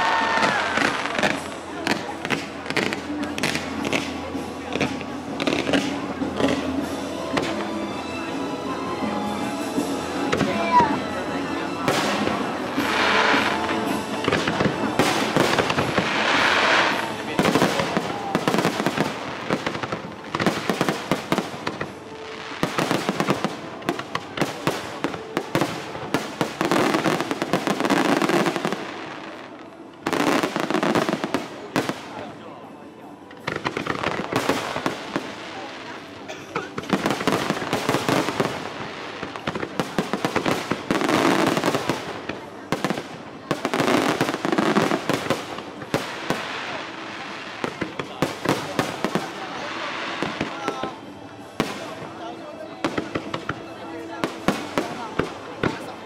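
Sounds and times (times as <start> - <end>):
fireworks crackling and popping: 0.0 - 8.1, 9.6 - 56.0.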